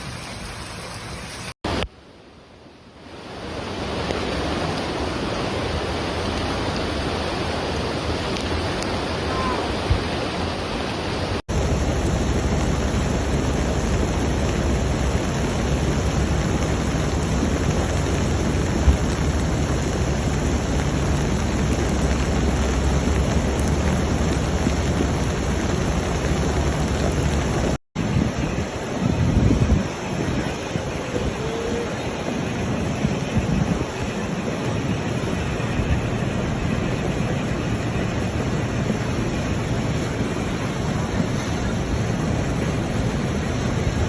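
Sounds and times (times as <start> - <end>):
floodwater rushing: 0.0 - 44.0
heavy rain: 0.0 - 44.0.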